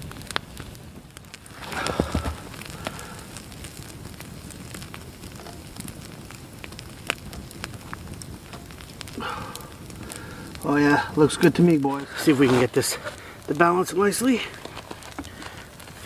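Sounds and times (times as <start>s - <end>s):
campfire crackling and popping: 0.0s - 16.0s
low fire hiss: 0.0s - 16.0s.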